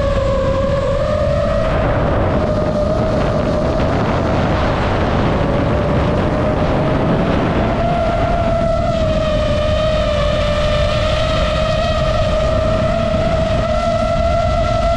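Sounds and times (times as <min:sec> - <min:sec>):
drone motors whining: 0:00.0 - 0:14.9
rush of wind: 0:00.0 - 0:14.9.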